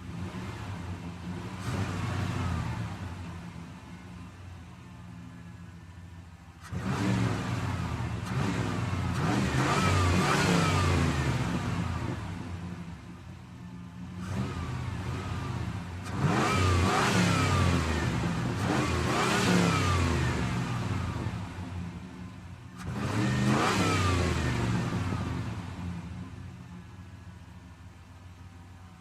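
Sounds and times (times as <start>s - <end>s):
pickup truck engine revving: 0.0s - 4.4s, 5.1s - 26.8s.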